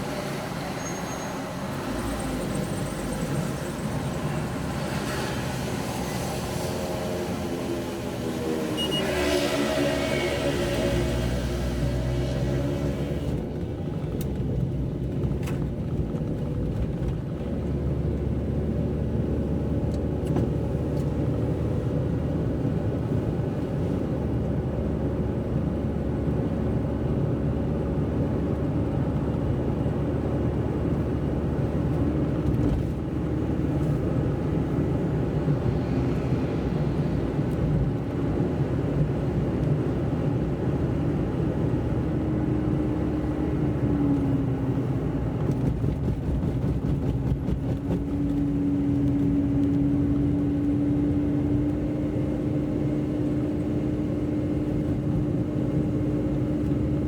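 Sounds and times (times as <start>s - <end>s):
car engine and tyres on wet road: 0.0s - 57.0s.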